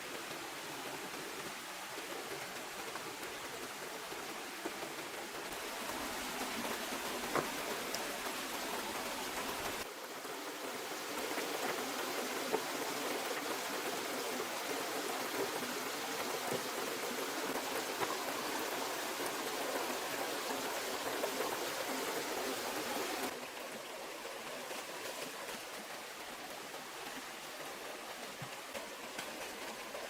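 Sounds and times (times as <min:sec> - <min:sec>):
rushing water: 0:00.0 - 0:30.0.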